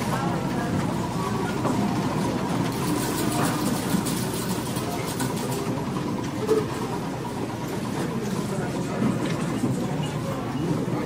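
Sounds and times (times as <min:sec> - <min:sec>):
murmur of many voices: 0:00.0 - 0:11.0.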